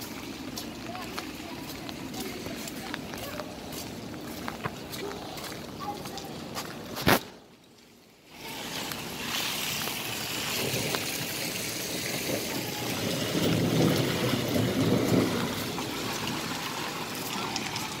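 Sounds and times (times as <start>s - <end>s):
rain on wet street: 0.0s - 18.0s.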